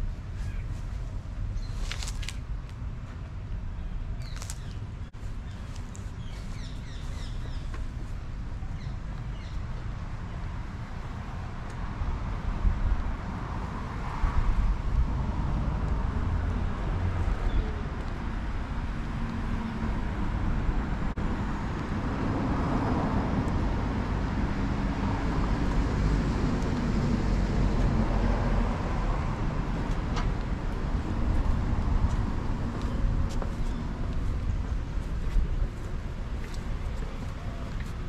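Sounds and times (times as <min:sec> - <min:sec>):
cars passing by: 0:00.0 - 0:38.0.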